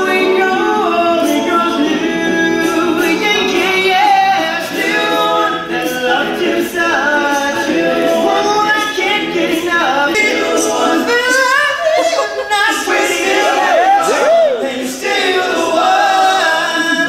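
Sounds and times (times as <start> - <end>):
a cappella group singing: 0.0 - 17.0.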